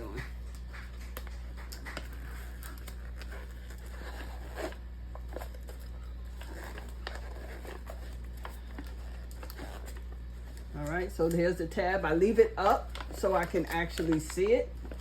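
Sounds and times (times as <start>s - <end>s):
paper rustling: 0.0s - 15.0s
steady low hum: 0.0s - 15.0s.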